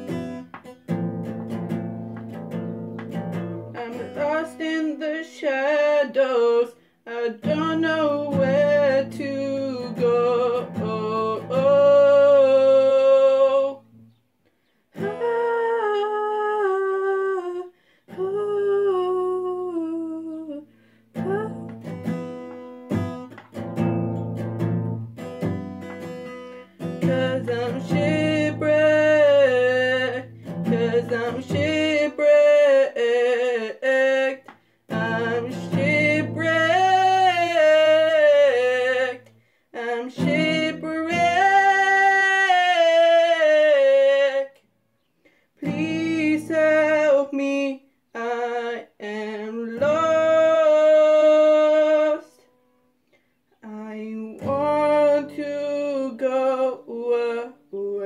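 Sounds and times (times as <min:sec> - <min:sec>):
strummed classical guitar: 0:00.0 - 0:14.2, 0:15.0 - 0:17.5, 0:21.1 - 0:44.6, 0:45.6 - 0:47.8, 0:48.5 - 0:52.7, 0:54.1 - 0:58.0
girl singing: 0:03.4 - 0:14.0, 0:15.0 - 0:23.4, 0:25.4 - 0:44.6, 0:45.6 - 0:52.6, 0:53.6 - 0:58.0.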